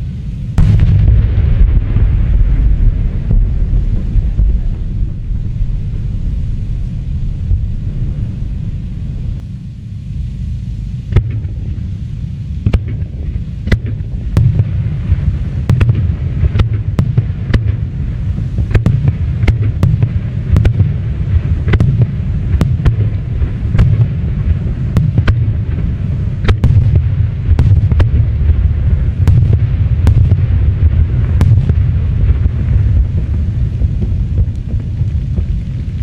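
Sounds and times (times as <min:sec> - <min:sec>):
deep continuous rumble: 0:00.0 - 0:36.0
fireworks bangs: 0:00.6 - 0:09.4, 0:12.6 - 0:36.0.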